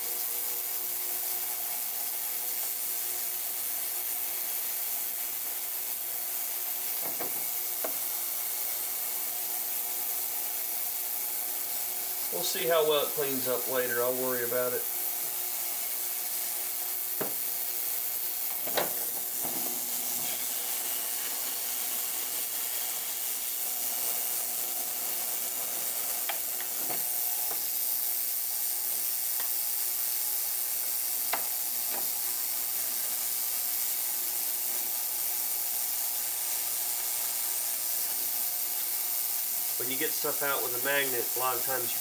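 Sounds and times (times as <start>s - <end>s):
ultrasonic cleaner hissing: 0.0s - 42.0s.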